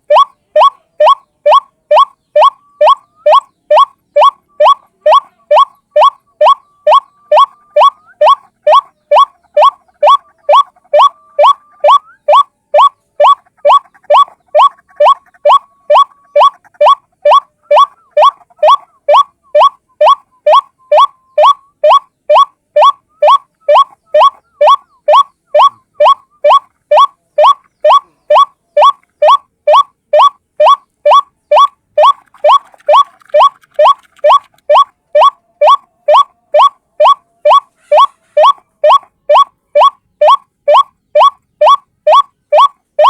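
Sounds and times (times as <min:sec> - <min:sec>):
waterhen calling: 0:00.0 - 0:43.0.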